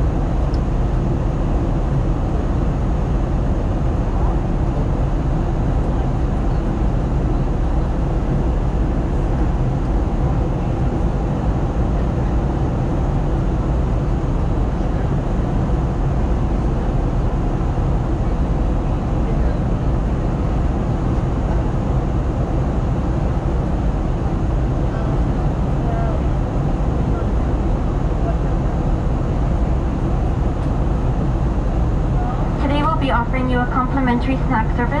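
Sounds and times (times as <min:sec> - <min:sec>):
airliner engine roar: 0:00.0 - 0:35.0.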